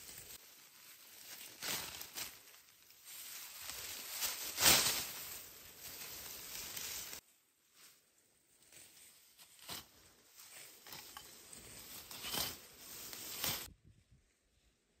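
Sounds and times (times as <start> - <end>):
leafy vegetation rustling: 0.0 - 13.7.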